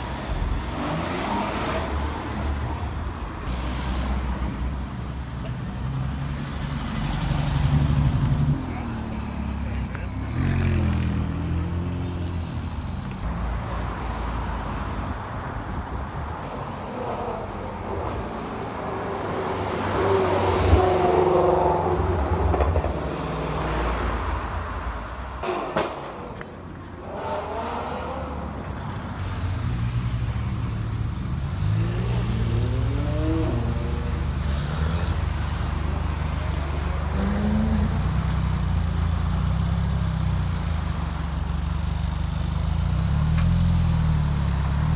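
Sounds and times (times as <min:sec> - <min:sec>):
car engines accelerating: 0:00.0 - 0:15.3, 0:16.0 - 0:44.9.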